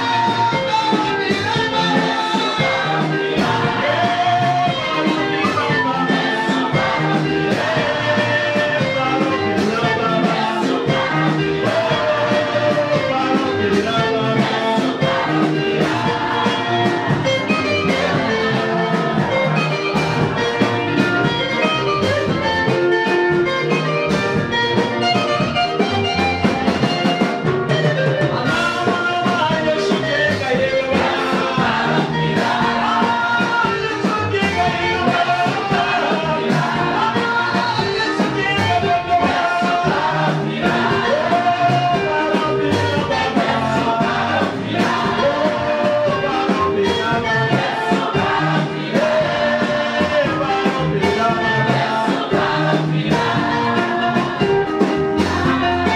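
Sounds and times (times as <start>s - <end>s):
choir singing worship music: 0.0s - 22.5s, 28.3s - 55.9s
instruments with steady beat: 0.0s - 55.9s.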